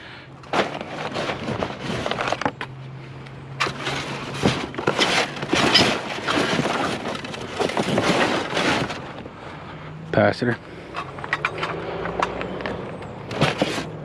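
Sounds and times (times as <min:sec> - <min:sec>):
junk rustling and clattering: 0:00.4 - 0:02.8, 0:03.6 - 0:09.7, 0:10.4 - 0:14.0.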